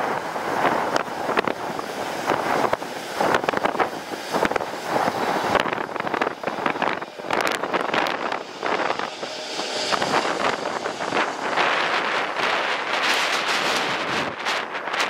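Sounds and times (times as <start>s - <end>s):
jet airliner engine: 0.0s - 15.0s
wind buffeting microphone: 0.0s - 15.0s.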